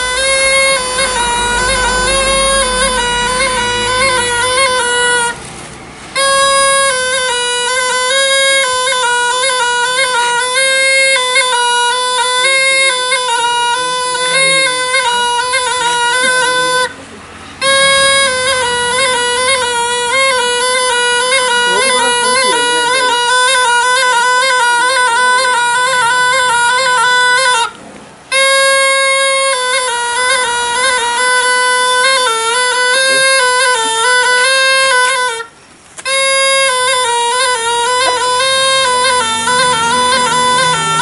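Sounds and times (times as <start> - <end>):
reed pipe buzzing melody: 0.0 - 41.0.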